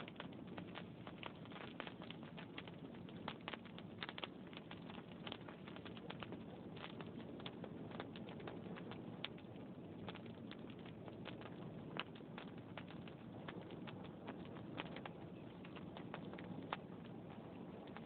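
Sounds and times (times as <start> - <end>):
log fire crackling and popping: 0.0 - 18.0
low noise of flames: 0.0 - 18.0.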